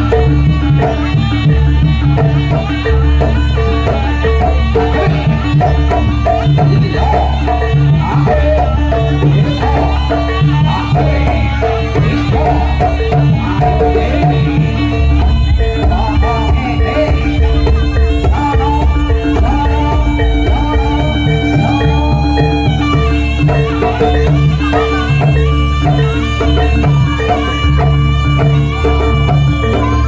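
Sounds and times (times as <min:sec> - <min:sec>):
hand drums beating: 0:00.0 - 0:30.0
wavering melody line: 0:00.0 - 0:30.0.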